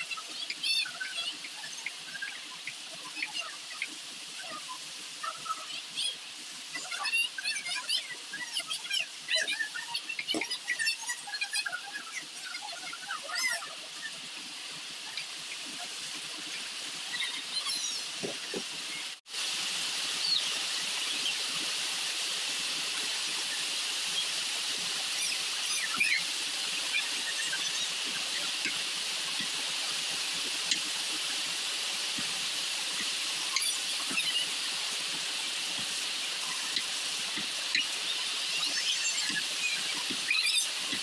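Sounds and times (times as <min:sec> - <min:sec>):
steady high-pitched hiss: 0:00.0 - 0:41.0.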